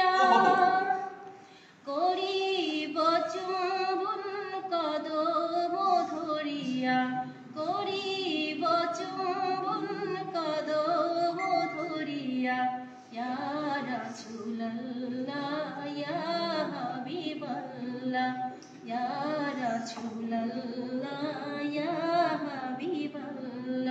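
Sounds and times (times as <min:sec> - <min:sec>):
woman singing unaccompanied: 0:00.0 - 0:01.2, 0:01.9 - 0:23.9.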